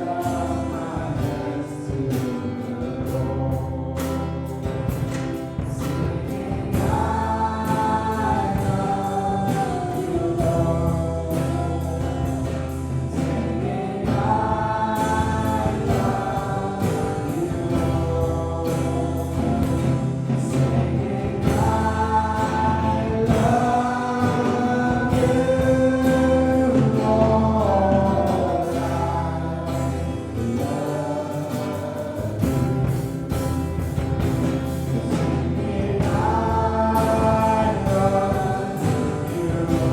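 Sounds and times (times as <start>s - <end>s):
bass and drum beat: 0.0s - 39.9s
choir singing: 0.0s - 39.9s.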